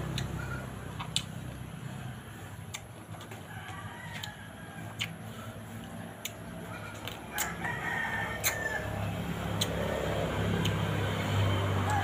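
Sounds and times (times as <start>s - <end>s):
chewing raw mango: 0.0s - 12.0s.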